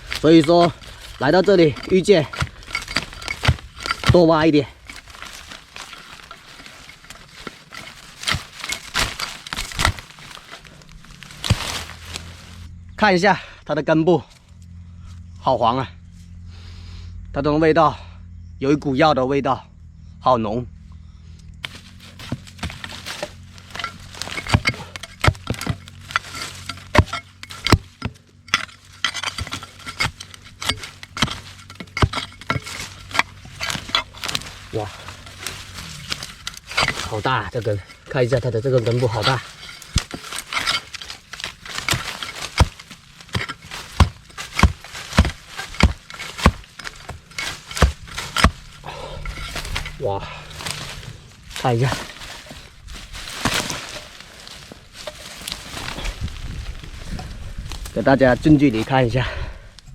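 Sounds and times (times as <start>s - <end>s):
digging tool striking soil: 0.0s - 12.7s, 21.6s - 59.1s
light scraping and rustling: 0.0s - 12.7s, 21.5s - 59.2s.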